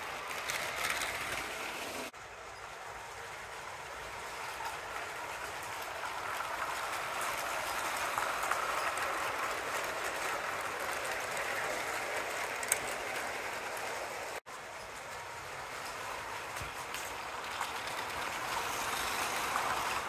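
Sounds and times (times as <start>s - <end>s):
toy train clattering on plastic track: 0.0s - 20.0s.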